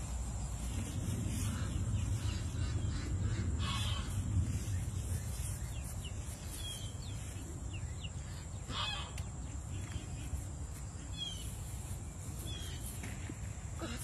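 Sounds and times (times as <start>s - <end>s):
faint small birds chirping: 0.6s - 14.0s.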